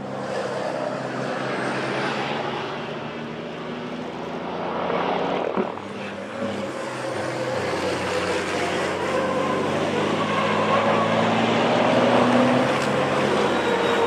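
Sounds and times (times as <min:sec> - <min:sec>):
road and wind noise: 0:00.0 - 0:14.0
truck diesel engine drone: 0:00.0 - 0:14.0.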